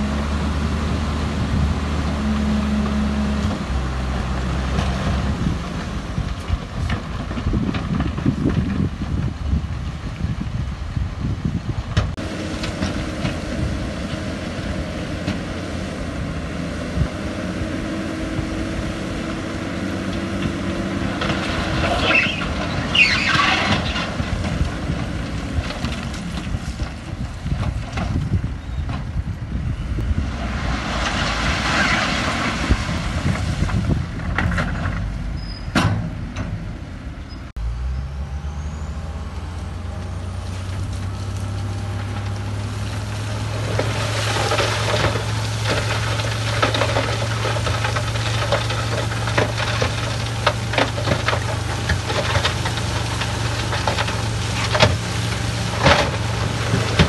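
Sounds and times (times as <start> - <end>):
diesel machinery engine: 0.0 - 57.0.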